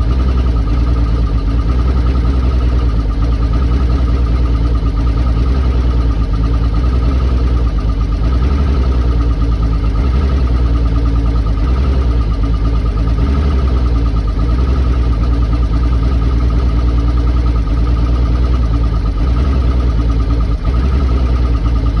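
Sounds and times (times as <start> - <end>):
outboard motor idling roughly: 0.0 - 22.0.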